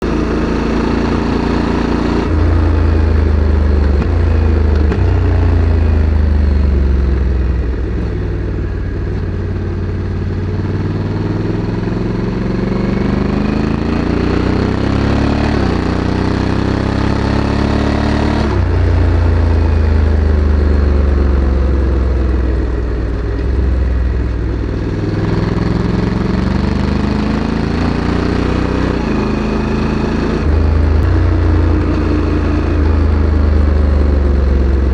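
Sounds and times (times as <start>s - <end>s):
motorcycle engine while riding: 0.0s - 34.9s.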